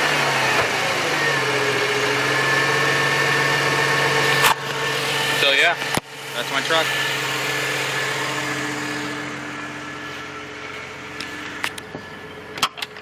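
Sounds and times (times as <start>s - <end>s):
truck engine idling: 2.2s - 13.0s.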